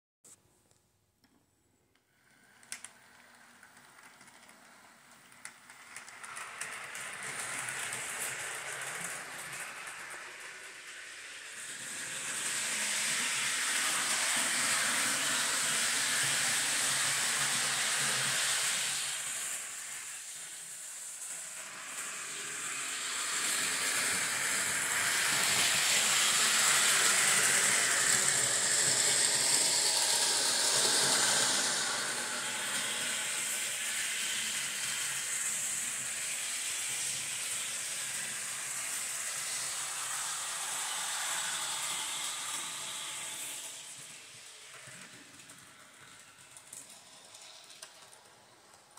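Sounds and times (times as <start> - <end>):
model train running on track: 2.4 - 48.9.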